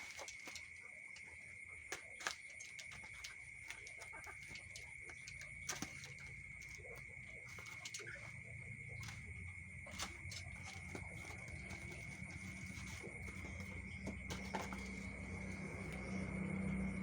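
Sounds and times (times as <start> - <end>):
low hum: 0.2 - 17.0.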